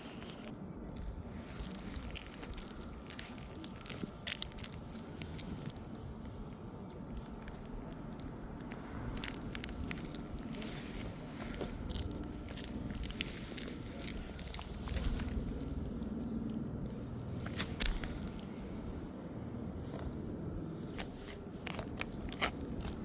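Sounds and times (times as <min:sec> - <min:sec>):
steady low rumble: 0:00.0 - 0:23.0
shingles clicking and crunching: 0:01.0 - 0:18.4, 0:20.9 - 0:23.0.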